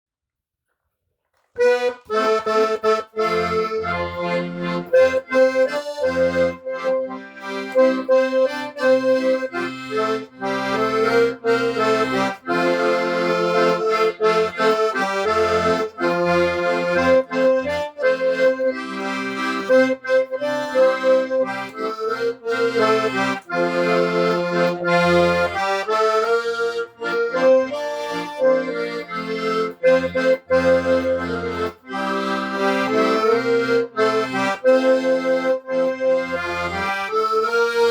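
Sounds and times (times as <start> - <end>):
accordion playing a tune: 1.6 - 37.9.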